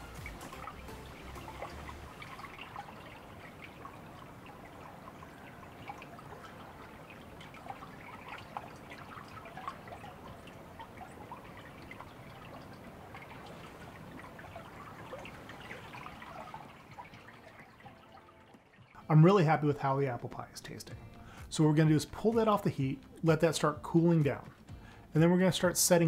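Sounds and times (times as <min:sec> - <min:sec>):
liquid swishing and trickling: 0:00.0 - 0:25.7.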